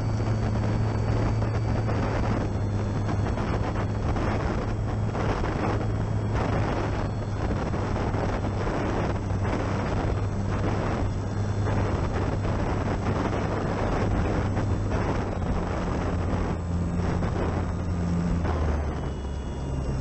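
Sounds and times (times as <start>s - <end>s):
electric motor and propeller drone: 0.0s - 20.0s
wind buffeting microphone: 0.0s - 20.0s.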